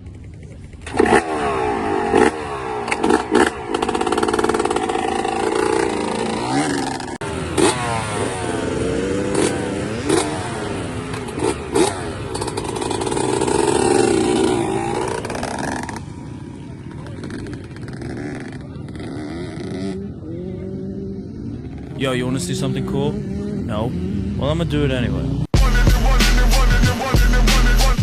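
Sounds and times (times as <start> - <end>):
motocross bike engine revving: 0.1 - 28.0.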